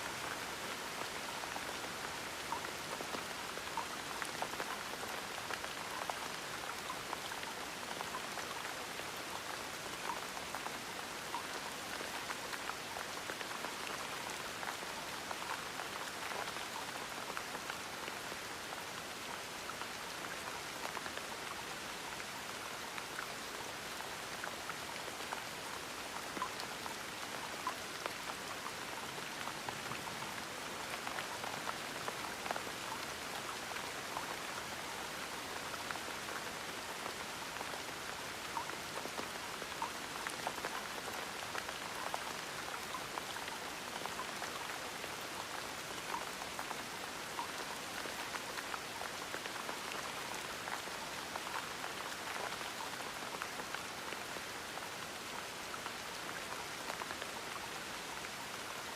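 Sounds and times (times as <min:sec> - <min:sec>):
gentle rain: 0:00.0 - 0:58.9.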